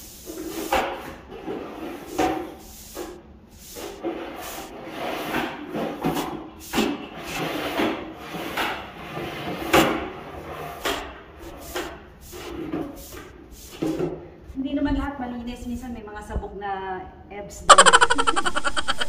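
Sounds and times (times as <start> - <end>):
broom sweeping a tile floor: 0.0 - 14.6, 17.8 - 19.0.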